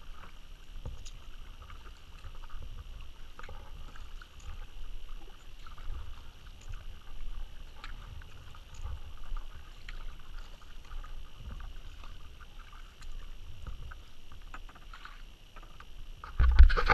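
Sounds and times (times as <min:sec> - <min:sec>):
water splashes and drips: 0:00.0 - 0:15.2
paddle strokes in water: 0:00.0 - 0:16.9.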